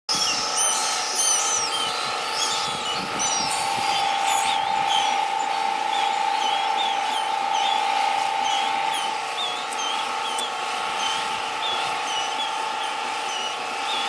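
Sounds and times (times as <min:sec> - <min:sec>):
birds chirping: 0:00.1 - 0:14.0
steady machine hum: 0:00.1 - 0:14.0
wind rumbling on microphone: 0:00.1 - 0:14.0.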